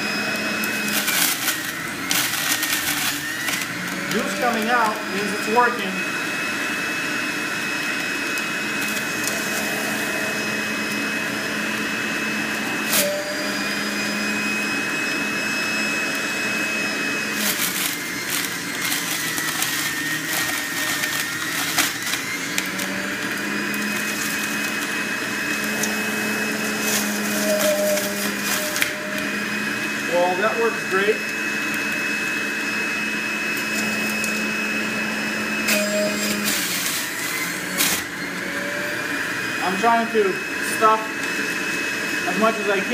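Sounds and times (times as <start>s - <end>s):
juicer motor whine: 0.0s - 42.9s
shredding disc crackling: 0.2s - 38.5s.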